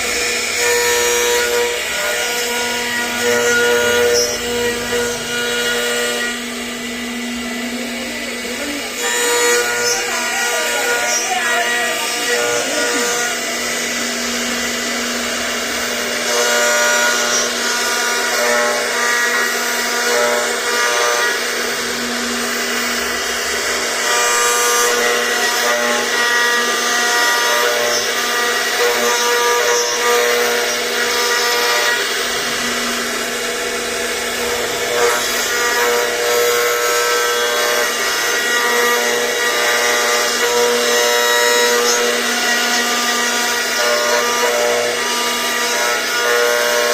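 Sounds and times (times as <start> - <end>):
router spindle whining: 0.0 - 46.9.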